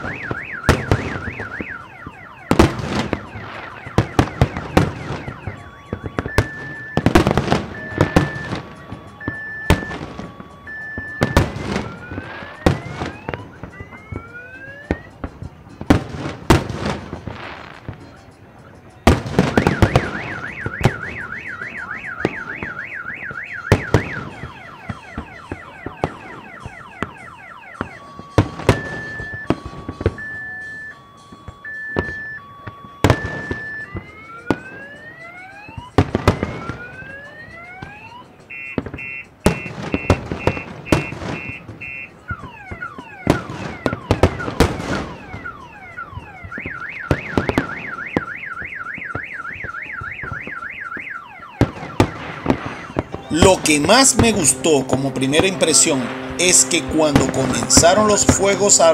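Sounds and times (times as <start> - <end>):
car alarm siren: 0.0 - 18.0, 19.1 - 58.9
fireworks banging and crackling: 0.0 - 58.9.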